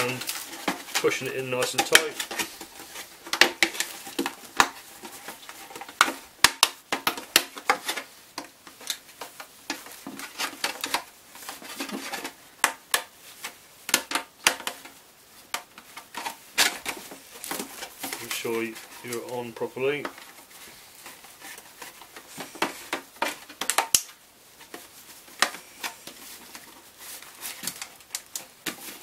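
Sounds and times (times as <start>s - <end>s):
plastic helmet knocking and creaking: 0.0s - 29.0s.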